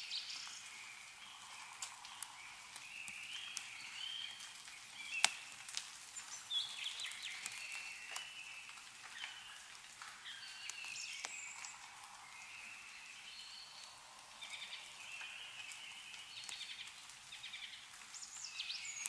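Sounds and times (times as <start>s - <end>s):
meltwater dripping: 0.0s - 19.0s
small birds chirping: 0.0s - 19.0s.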